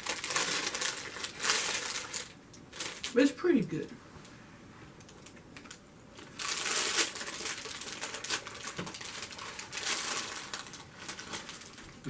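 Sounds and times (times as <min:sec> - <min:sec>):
paper food wrapper crinkling: 0:00.0 - 0:03.9, 0:05.0 - 0:12.0.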